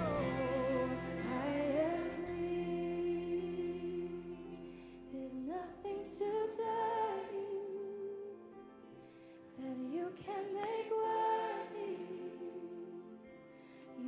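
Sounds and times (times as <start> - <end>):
soft choir and orchestra: 0.0 - 14.0
woman singing into a microphone: 0.3 - 8.6, 9.5 - 14.0.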